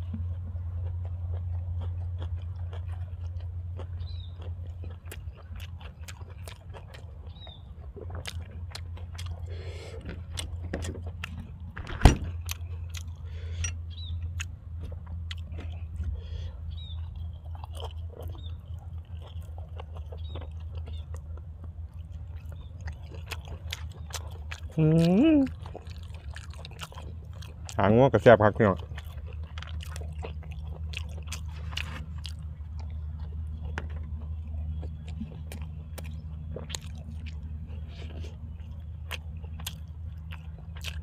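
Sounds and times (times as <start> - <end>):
low hum: 0.0 - 41.0
person chewing food: 0.0 - 41.0.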